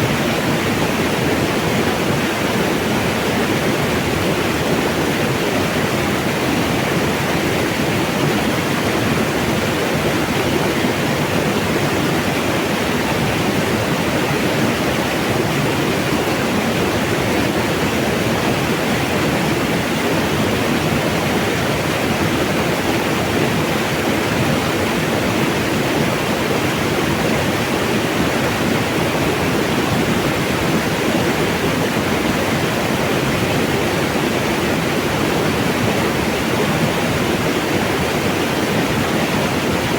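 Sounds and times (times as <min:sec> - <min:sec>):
mountain water rushing: 0:00.0 - 0:39.9.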